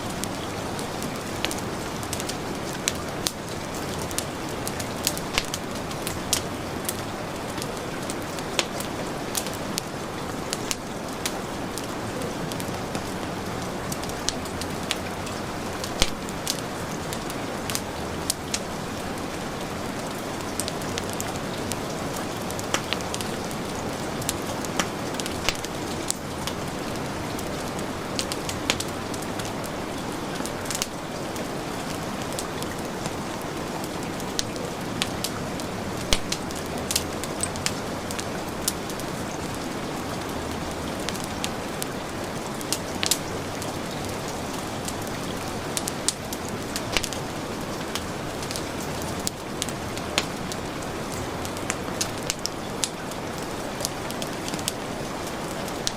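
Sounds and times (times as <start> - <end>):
heavy rain falling: 0.0 - 55.9
wood fire crackling: 0.0 - 55.9.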